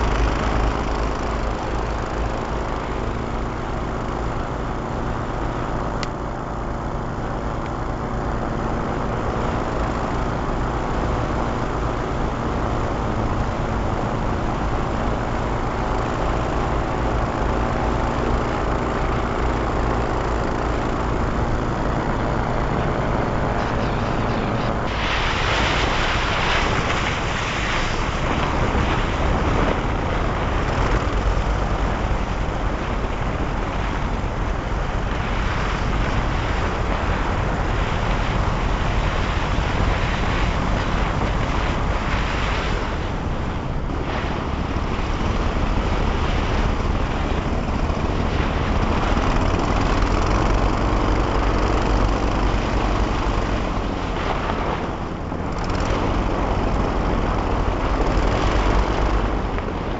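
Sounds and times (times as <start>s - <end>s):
airboat engines running: 0.0s - 59.9s.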